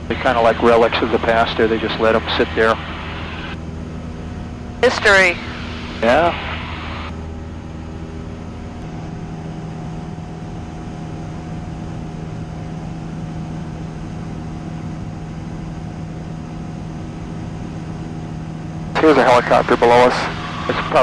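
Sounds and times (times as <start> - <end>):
airplane engine and propeller: 0.0 - 21.0.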